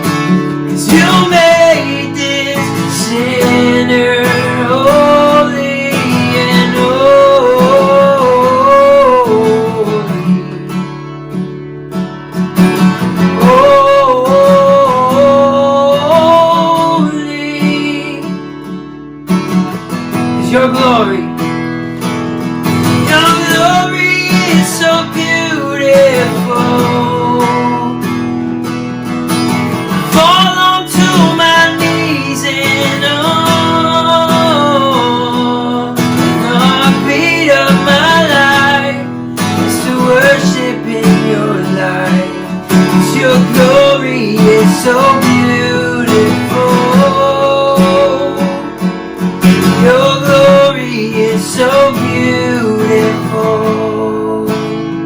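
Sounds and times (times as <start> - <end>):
wordless singing: 0.0 - 10.5, 13.0 - 18.4, 22.8 - 28.2, 29.7 - 48.9, 49.5 - 54.9
worship song with acoustic guitar: 0.0 - 55.0.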